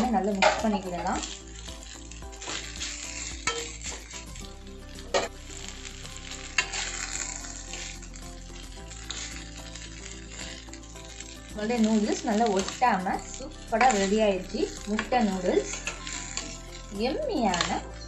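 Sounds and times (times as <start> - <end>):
noodles sizzling in a pan: 0.0 - 18.0.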